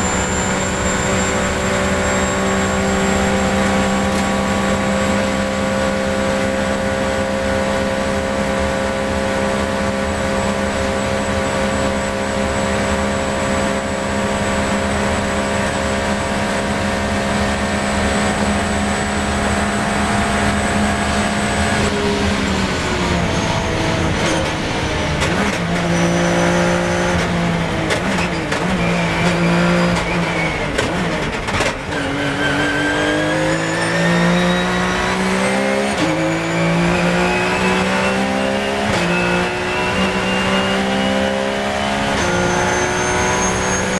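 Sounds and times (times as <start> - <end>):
engine downshifting: 0.0 - 43.9
race car engine at high revs: 0.0 - 43.9.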